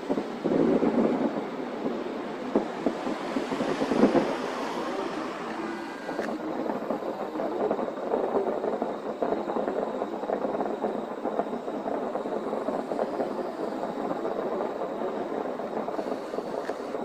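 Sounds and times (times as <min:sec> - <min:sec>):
fireworks barrage rumble: 0:00.0 - 0:17.0.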